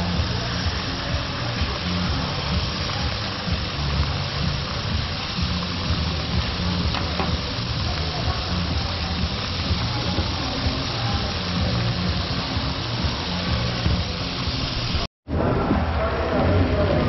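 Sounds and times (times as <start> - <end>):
meat sizzling: 0.0 - 15.1.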